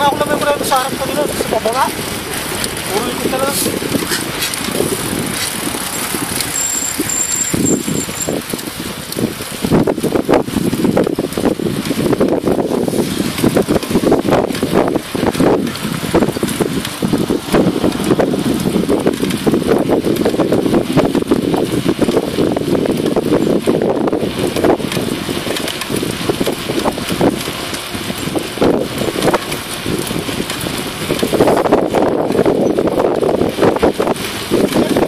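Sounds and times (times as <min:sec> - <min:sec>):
bicycle rolling on asphalt: 0:00.0 - 0:35.0
wind buffeting microphone: 0:00.0 - 0:35.0.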